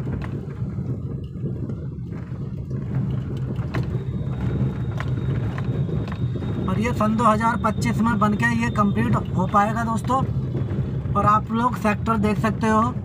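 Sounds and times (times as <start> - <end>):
vehicle driving over rough road: 0.0 - 13.0.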